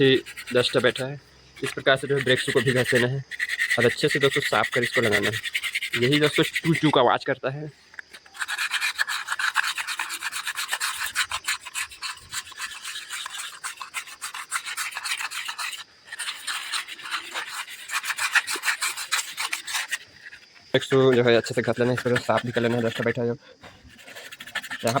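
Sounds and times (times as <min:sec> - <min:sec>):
sandpaper scrubbing brake shoes: 0:00.0 - 0:07.0, 0:08.2 - 0:25.0.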